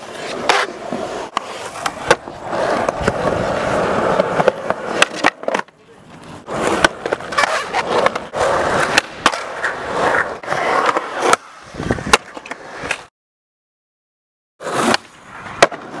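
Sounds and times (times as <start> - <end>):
skateboard clacking on ground: 0.0 - 13.1, 14.6 - 16.0
skateboard wheels rolling on concrete: 0.0 - 13.1, 14.6 - 16.0.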